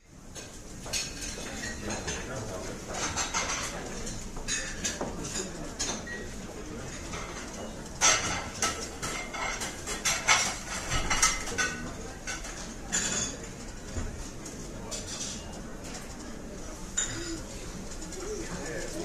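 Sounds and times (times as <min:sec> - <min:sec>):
kitchen utensils and dishes clattering: 0:00.4 - 0:14.3, 0:14.9 - 0:16.2, 0:16.8 - 0:19.0.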